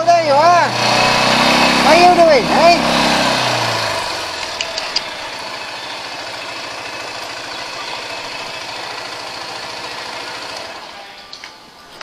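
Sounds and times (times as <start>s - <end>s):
quad bike engine idling: 0.0s - 11.1s.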